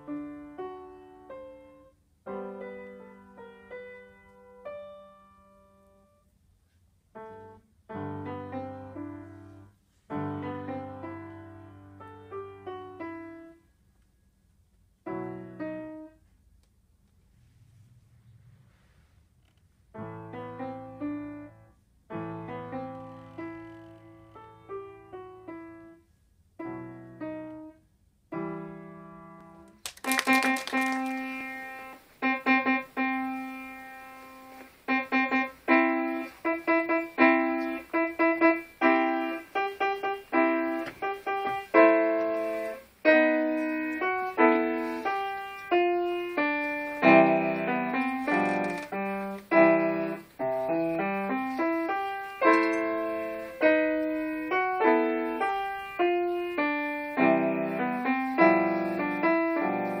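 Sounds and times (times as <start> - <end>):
solo grand piano: 0.0 - 13.9, 15.0 - 16.5, 19.9 - 60.0.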